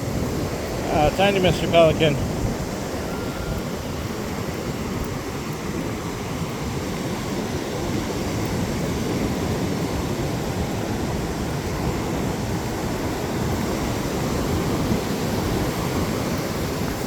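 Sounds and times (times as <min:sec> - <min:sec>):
ocean surf on beach: 0:00.0 - 0:17.0
wind buffeting microphone: 0:00.0 - 0:17.0.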